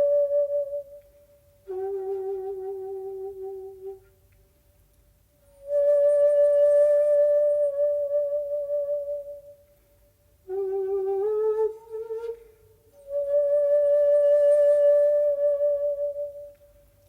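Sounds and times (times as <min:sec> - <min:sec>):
breathy bamboo flute: 0:00.0 - 0:04.6, 0:05.4 - 0:17.0.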